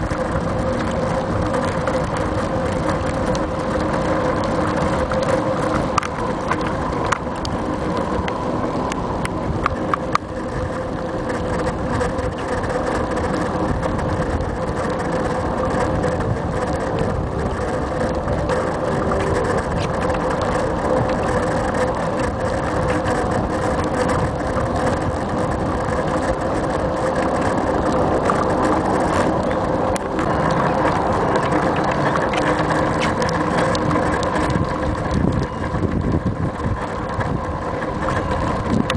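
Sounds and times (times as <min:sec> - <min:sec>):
bicycle rattling clicks: 0:00.0 - 0:38.9
bicycle tyre and frame rumble: 0:00.0 - 0:38.9
wind over microphone: 0:00.0 - 0:38.9.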